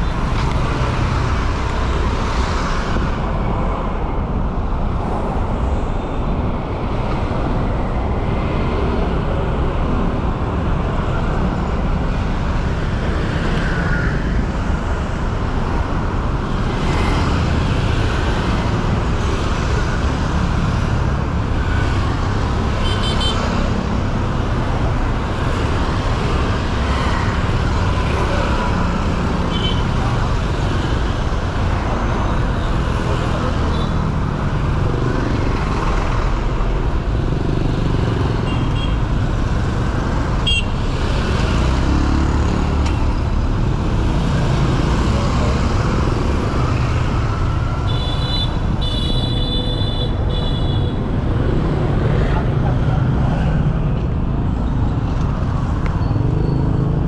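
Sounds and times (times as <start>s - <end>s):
city road traffic: 0.0s - 57.0s.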